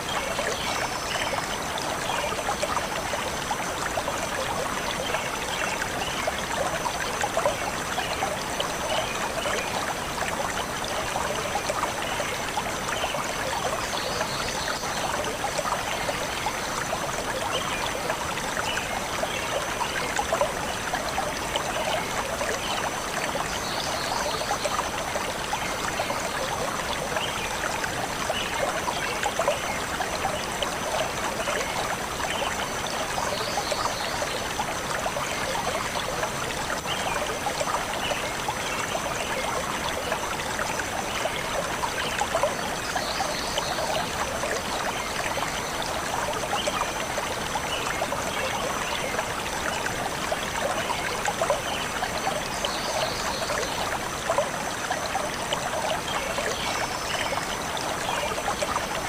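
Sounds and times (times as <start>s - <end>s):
stream of water flowing: 0.0s - 59.0s.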